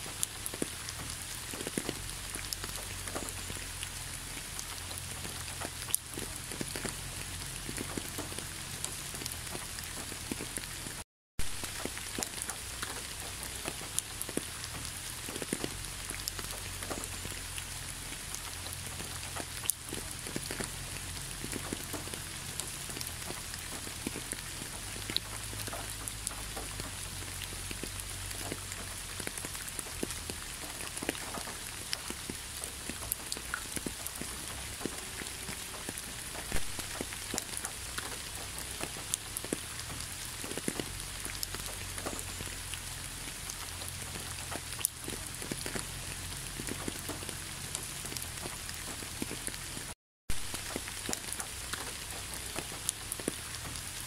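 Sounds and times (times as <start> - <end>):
rain falling on asphalt: 0.0 - 54.0.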